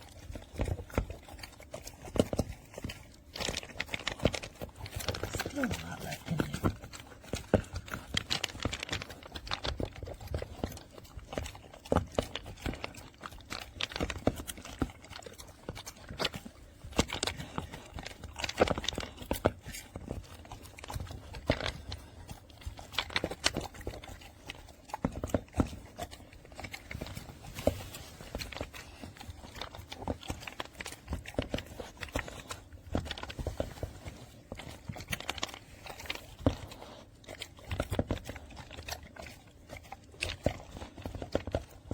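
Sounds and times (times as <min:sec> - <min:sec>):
dog crunching food: 0:00.0 - 0:41.9.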